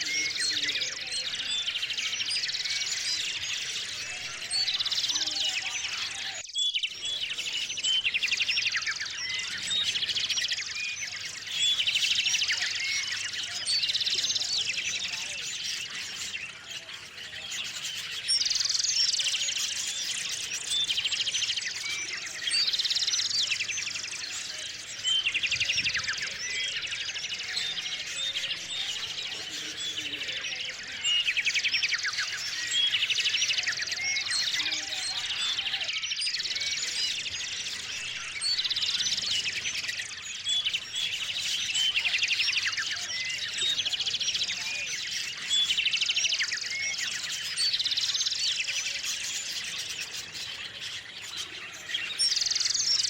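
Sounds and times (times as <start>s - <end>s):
rapid trilled birdsong: 0.0s - 53.0s
songbirds chirping: 0.0s - 53.0s.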